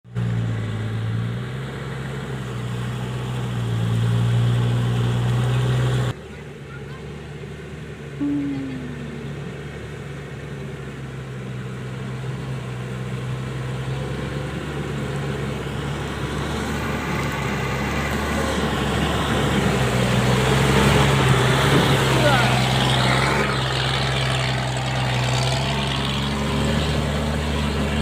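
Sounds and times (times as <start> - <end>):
combine harvester engine running: 0.1 - 28.0.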